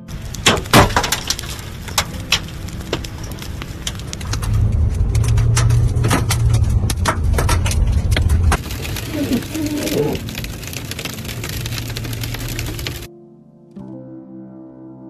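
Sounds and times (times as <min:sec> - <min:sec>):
car driving rumble: 0:00.0 - 0:13.1
small stones striking car: 0:00.0 - 0:13.1.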